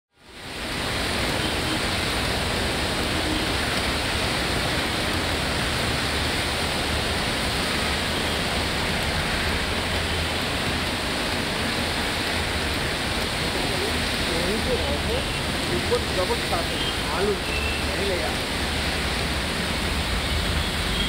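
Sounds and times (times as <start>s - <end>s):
tyres on wet road: 0.1s - 21.0s
heavy rain hissing: 0.2s - 21.0s
low traffic rumble: 0.2s - 21.0s.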